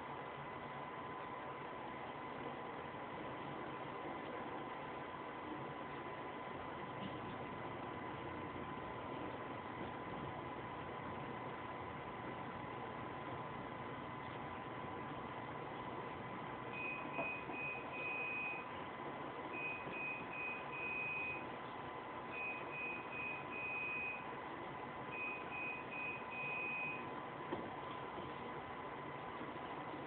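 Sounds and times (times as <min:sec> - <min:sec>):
faint constant hum: 0:00.0 - 0:30.0.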